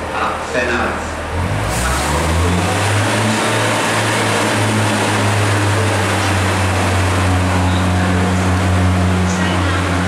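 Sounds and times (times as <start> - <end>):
diesel railcar engine idling: 0.0 - 10.0.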